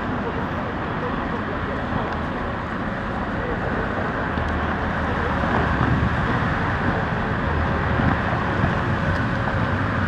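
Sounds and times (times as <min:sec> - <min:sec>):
passing cars: 0:00.0 - 0:10.0.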